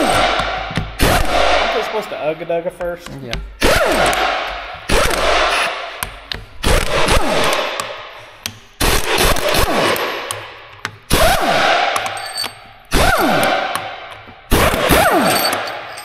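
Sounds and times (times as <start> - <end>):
impact wrench hammering: 2.8 - 16.0.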